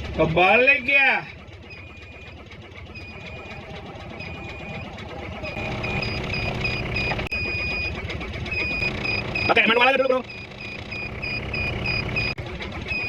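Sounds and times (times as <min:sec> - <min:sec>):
vehicle engine running: 0:00.0 - 0:13.0
electronic warning beeps: 0:01.6 - 0:13.0.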